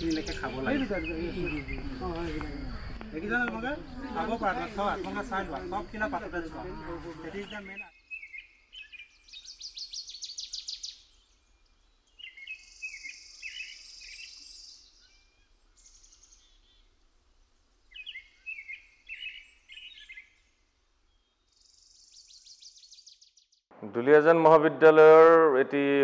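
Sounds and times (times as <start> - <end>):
small birds chirping and trilling: 0.0 - 23.7.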